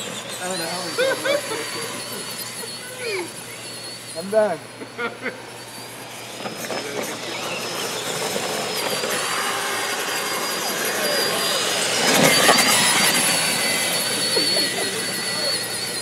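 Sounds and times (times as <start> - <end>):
rc truck electric motor whine: 0.0 - 16.0.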